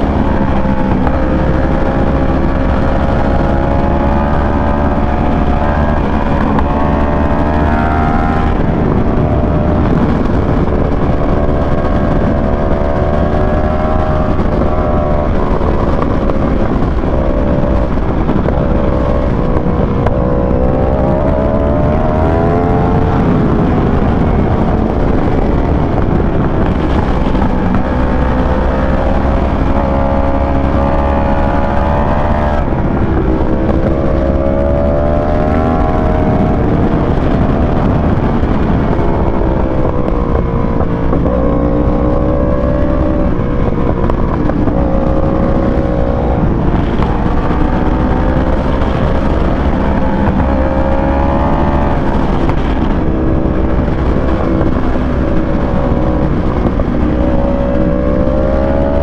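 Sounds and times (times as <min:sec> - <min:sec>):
motorcycle engine revving: 0:00.0 - 0:59.0
wind rush on microphone: 0:00.0 - 0:59.0.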